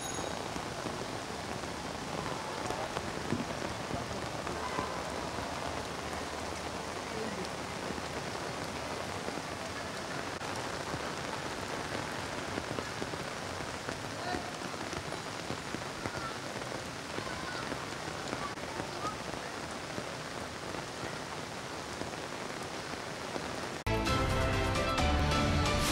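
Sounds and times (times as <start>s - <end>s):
heavy rain on flooded street: 0.0s - 25.9s.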